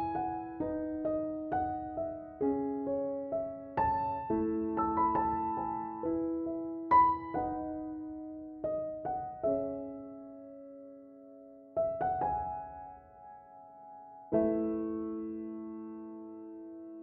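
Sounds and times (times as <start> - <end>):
soft solo piano music: 0.0 - 17.0.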